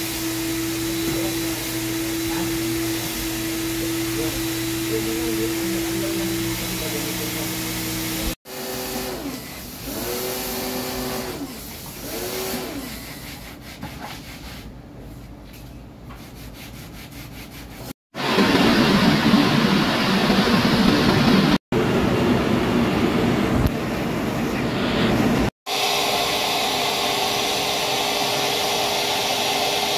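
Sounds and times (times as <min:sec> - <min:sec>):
carpet drying blower rushing air: 0:00.0 - 0:13.0, 0:18.1 - 0:29.9
vacuum cleaner running: 0:00.0 - 0:13.0, 0:18.1 - 0:29.9.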